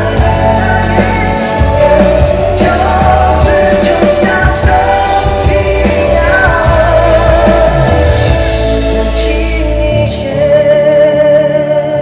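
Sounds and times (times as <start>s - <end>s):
rock band with drums: 0.0s - 10.4s
man singing rock ballad: 0.0s - 12.0s.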